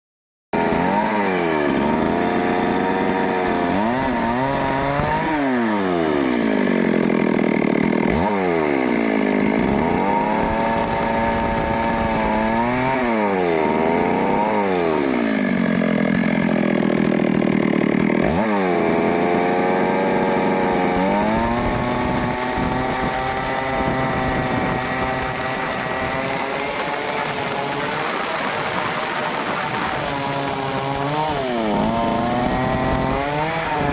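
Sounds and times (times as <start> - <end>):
chainsaw revving while cutting: 0.6 - 33.9.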